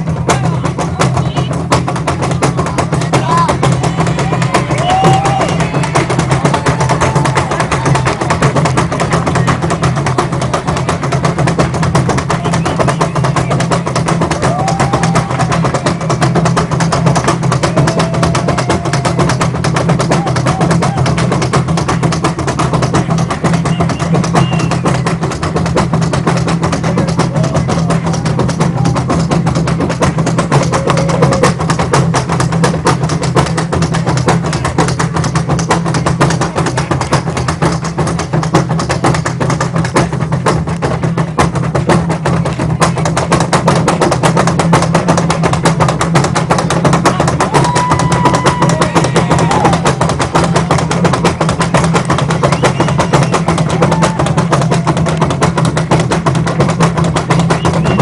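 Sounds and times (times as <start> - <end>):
hand drum ensemble: 0.0 - 58.0.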